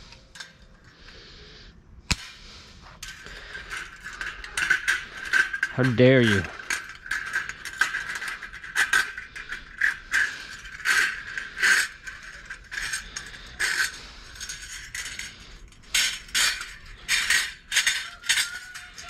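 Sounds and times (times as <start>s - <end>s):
metallic clinks and rattles: 2.8s - 19.0s.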